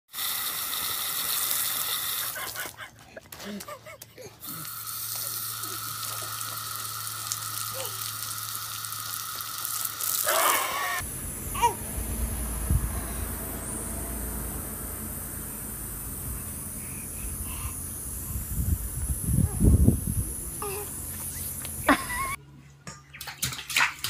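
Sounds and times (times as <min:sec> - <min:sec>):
sprinkler water hissing: 0:00.1 - 0:02.8, 0:04.4 - 0:22.4.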